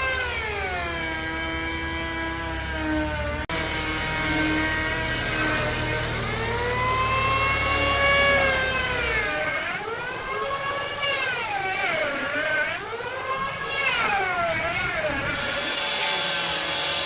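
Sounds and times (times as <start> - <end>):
power tool motor whining: 0.0 - 17.0.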